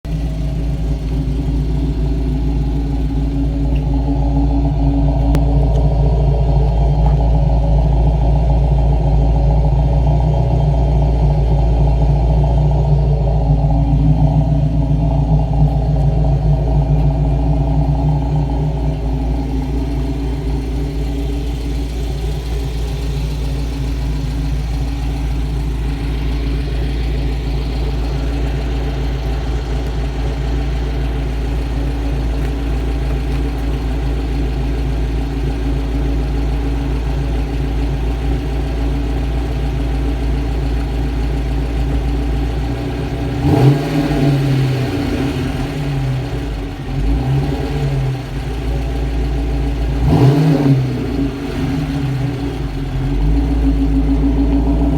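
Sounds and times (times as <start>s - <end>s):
car engine idling: 0.0s - 54.9s.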